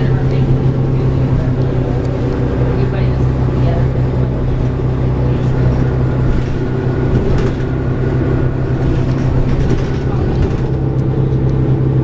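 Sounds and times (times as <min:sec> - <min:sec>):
bus diesel engine humming: 0:00.0 - 0:12.0.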